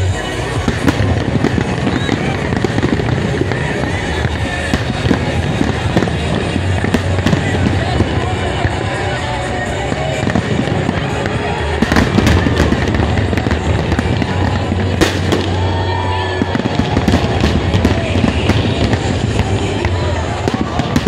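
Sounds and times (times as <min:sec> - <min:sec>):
crowd voices: 0:00.0 - 0:21.0
firework bangs: 0:00.0 - 0:21.0
fireworks crackling and rumbling: 0:00.0 - 0:21.0.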